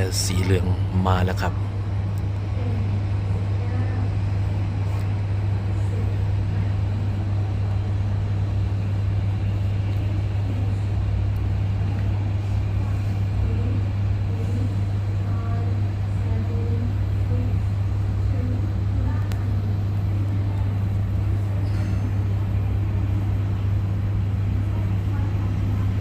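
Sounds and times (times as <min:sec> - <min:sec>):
low machine hum with rushing noise: 0:00.0 - 0:26.0.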